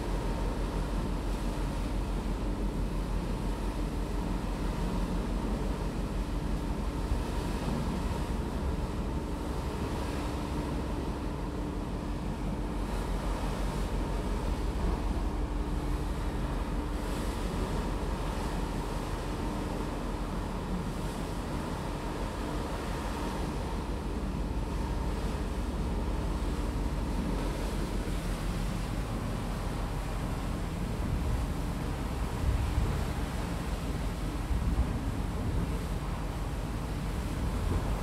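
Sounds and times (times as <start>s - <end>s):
sea water rushing: 0.0s - 38.0s
ship engine rumble: 0.0s - 38.0s
wind: 0.0s - 38.0s.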